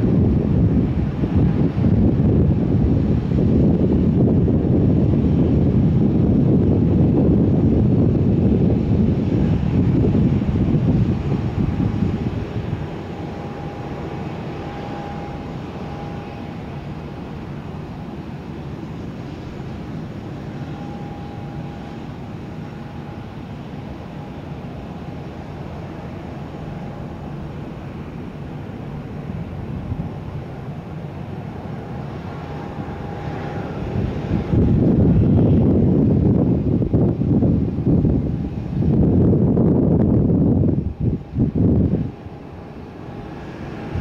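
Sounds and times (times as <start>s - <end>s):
faint high whine: 0.0s - 44.0s
jet engines running: 0.0s - 44.0s.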